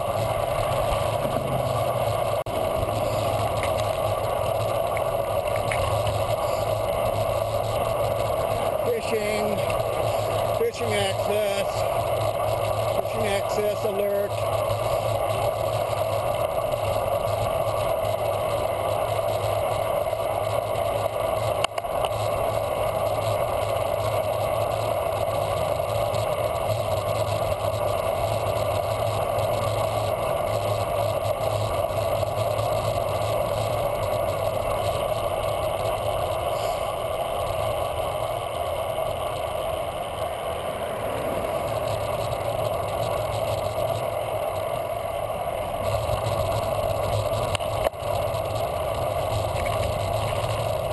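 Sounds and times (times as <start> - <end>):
bicycle road noise: 0.0 - 50.9.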